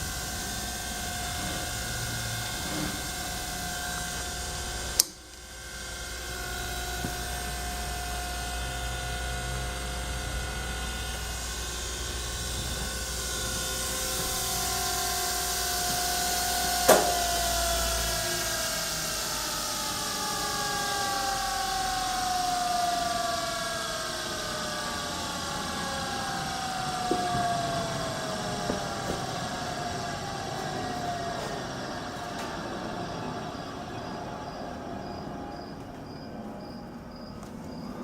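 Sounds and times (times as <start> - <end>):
surface grinder humming and whining: 0.0 - 38.0.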